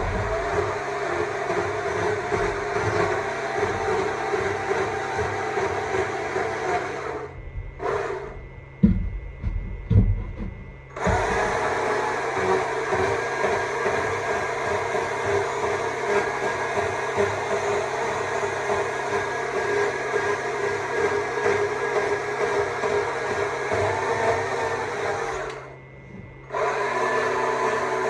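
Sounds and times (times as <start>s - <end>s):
battery chainsaw running: 0.0s - 8.4s, 10.9s - 25.7s, 26.5s - 28.0s.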